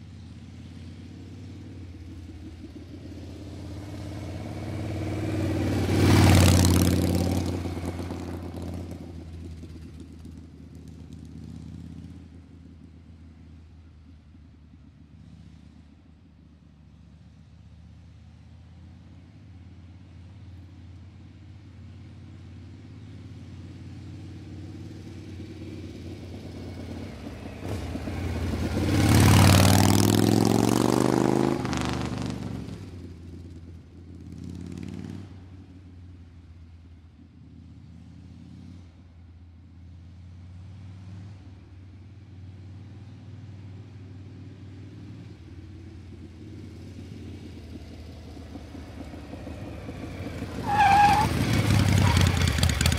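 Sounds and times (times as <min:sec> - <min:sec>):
motor vehicles passing by: 0:00.0 - 0:17.5, 0:18.6 - 0:52.9
low traffic hum: 0:00.0 - 0:52.9.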